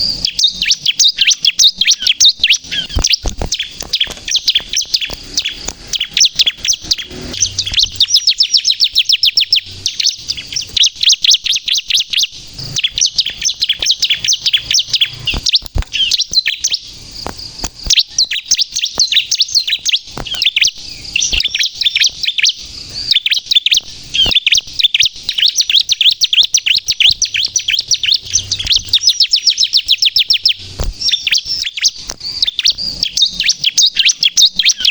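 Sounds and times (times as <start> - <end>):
bird singing high chirps: 0.0 - 34.9
sharp clicks: 0.1 - 33.8.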